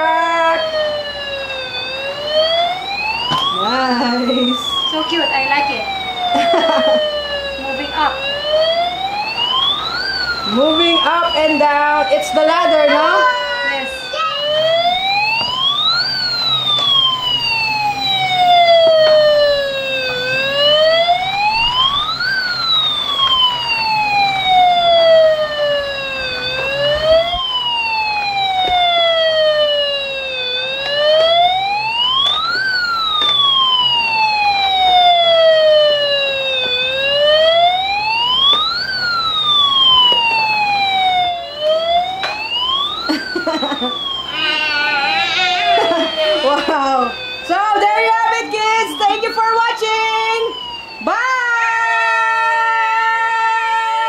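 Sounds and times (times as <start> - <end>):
toy fire truck siren: 0.0 - 54.0.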